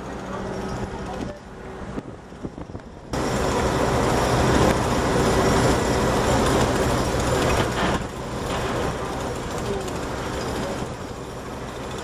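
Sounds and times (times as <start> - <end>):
machine rumble: 0.0 - 12.0.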